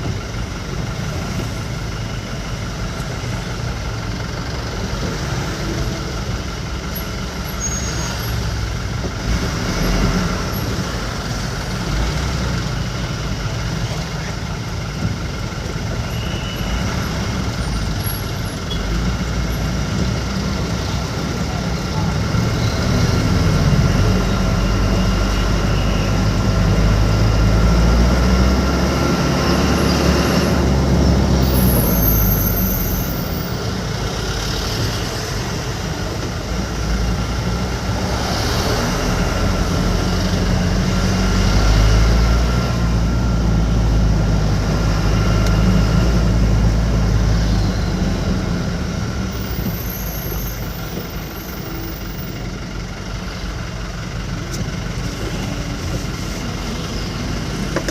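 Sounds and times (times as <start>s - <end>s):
road noise: 0.0s - 57.9s
truck engine running: 0.0s - 57.9s.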